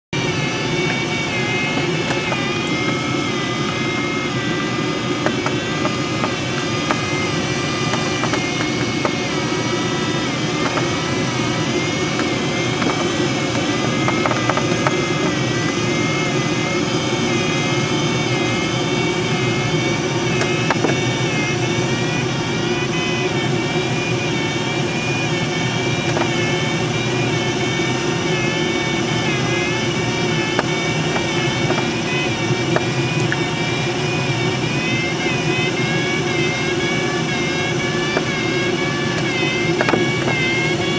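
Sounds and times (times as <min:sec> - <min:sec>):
airflow rushing around cockpit: 0:00.1 - 0:40.9
variometer tone sliding in pitch: 0:00.2 - 0:40.9.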